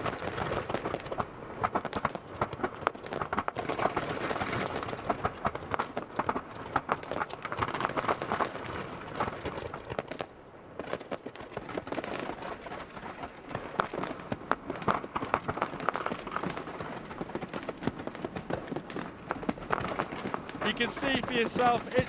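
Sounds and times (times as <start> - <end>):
fireworks crackling: 0.0 - 22.0
sharp firework pops: 0.0 - 22.0.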